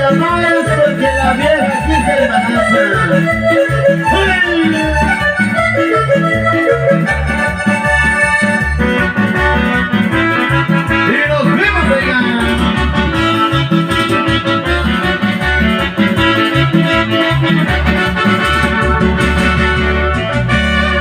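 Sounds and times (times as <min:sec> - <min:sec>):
electronic keyboard melody: 0:00.0 - 0:21.0
pulsing bass line: 0:00.0 - 0:21.0.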